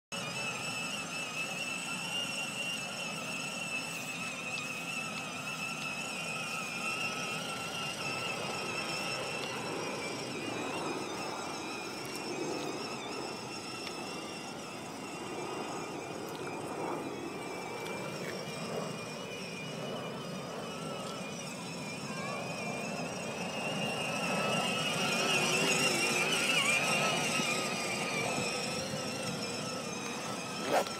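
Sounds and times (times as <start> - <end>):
electric toy car motors whining: 0.1 - 30.9.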